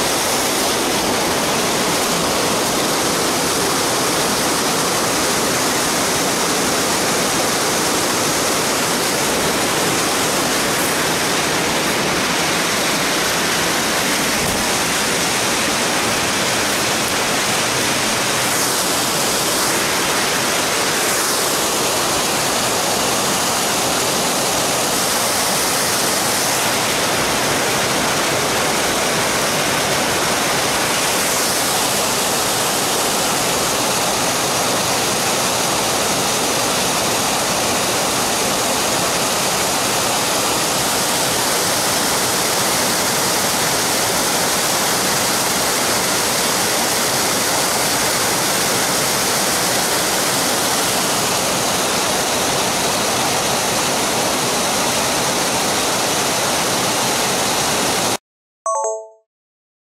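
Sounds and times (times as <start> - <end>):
water rushing over rocks: 0.0 - 58.2.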